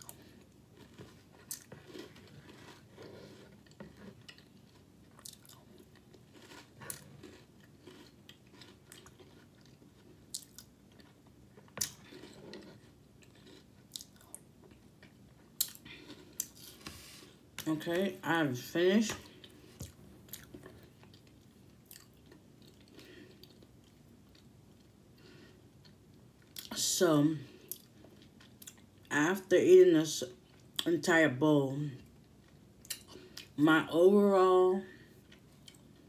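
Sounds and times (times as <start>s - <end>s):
chewing and crunching cereal: 0.0s - 18.0s, 19.2s - 29.1s, 34.9s - 36.0s.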